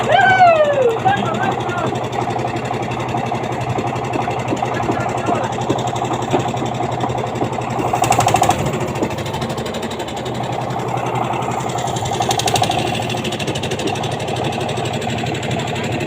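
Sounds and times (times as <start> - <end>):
engine knocking steadily: 0.0 - 16.0.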